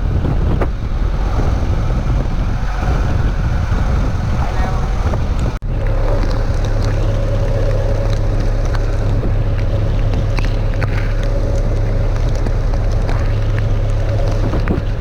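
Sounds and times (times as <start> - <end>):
boat engine droning: 0.0 - 15.0
engine whine: 0.0 - 15.0
water noise: 0.0 - 15.0
wind: 0.0 - 15.0.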